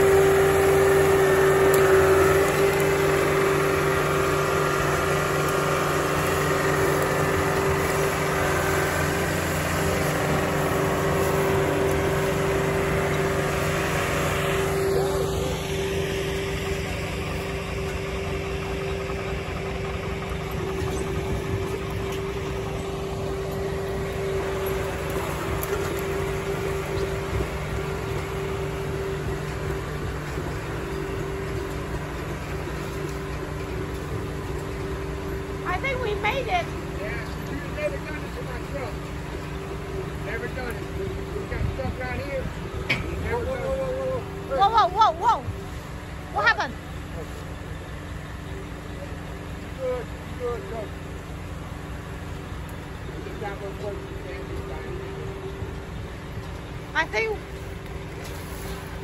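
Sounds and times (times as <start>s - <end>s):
engine running under load: 0.0s - 59.0s.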